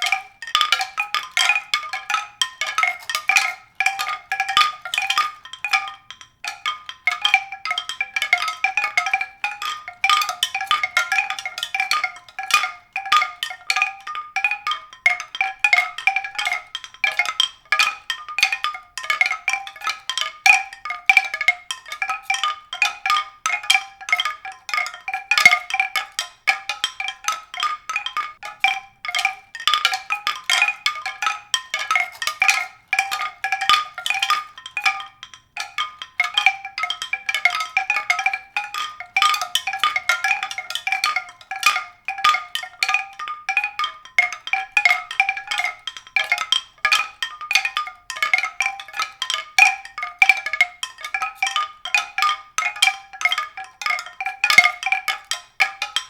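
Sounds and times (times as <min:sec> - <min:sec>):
mallet percussion notes: 0:00.0 - 0:56.0.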